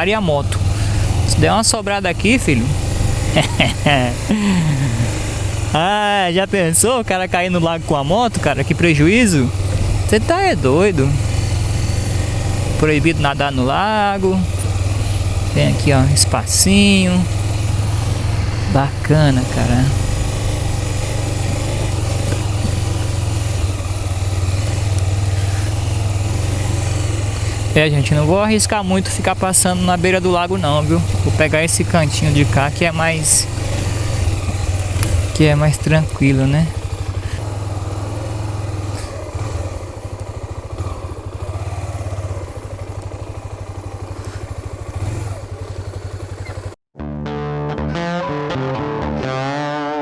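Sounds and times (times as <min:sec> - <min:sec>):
motorcycle engine running at low revs: 0:00.0 - 0:47.4.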